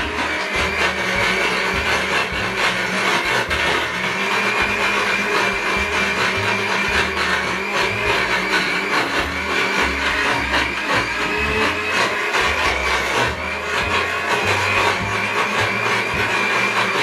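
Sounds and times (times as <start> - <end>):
blender crushing ice: 0.0 - 17.0
blender jar rattling: 0.0 - 17.0
blender motor whirring: 0.0 - 17.0.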